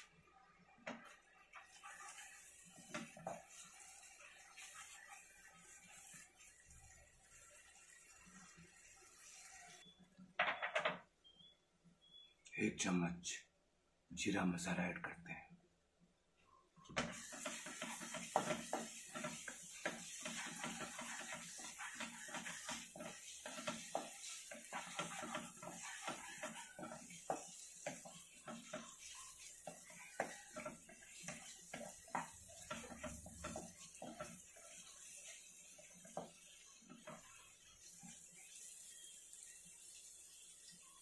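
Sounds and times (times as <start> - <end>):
wooden spatula scraping a pan: 0.0 - 9.8, 17.0 - 41.0.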